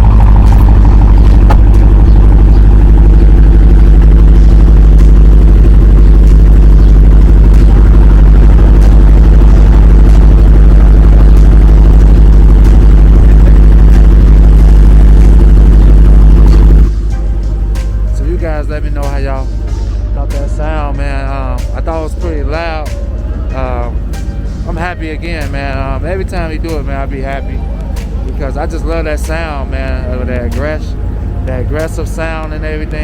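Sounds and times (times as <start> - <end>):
loud car engine idling: 0.0 - 33.0.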